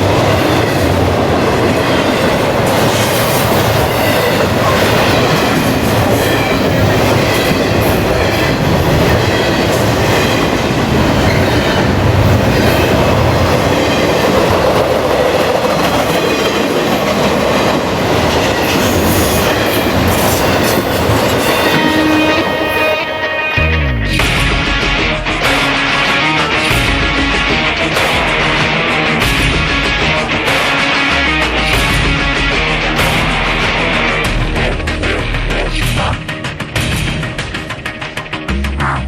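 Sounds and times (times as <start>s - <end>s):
wheels rumbling on rails: 0.0s - 39.0s.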